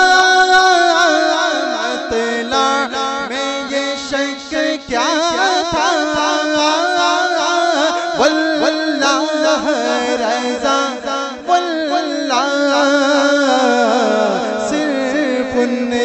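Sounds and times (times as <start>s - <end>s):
man singing: 0.0s - 16.0s.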